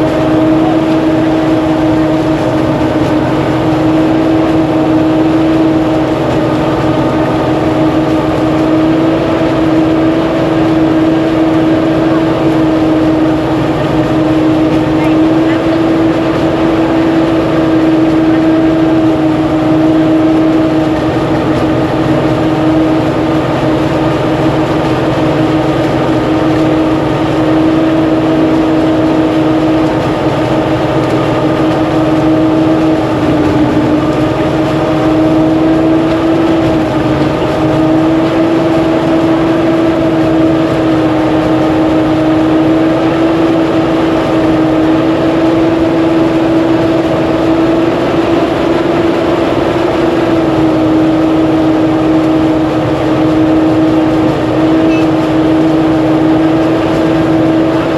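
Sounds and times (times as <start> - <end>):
engine humming steadily: 0.0 - 57.9.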